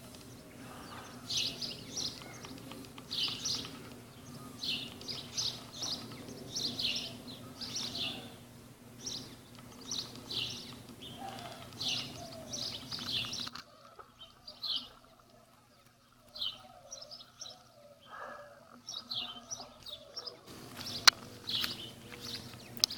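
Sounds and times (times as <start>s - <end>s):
faint low steady hum: 0.0s - 22.9s
small birds chirping: 0.0s - 22.9s.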